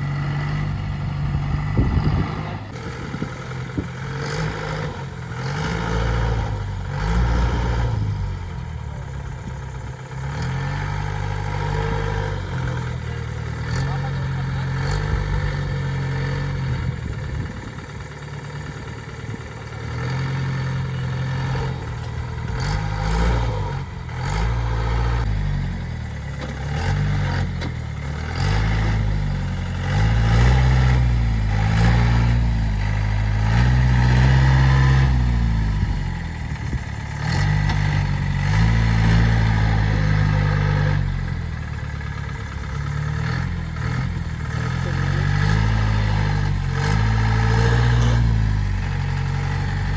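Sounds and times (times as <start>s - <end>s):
off-road vehicle engine revving: 0.0s - 49.9s.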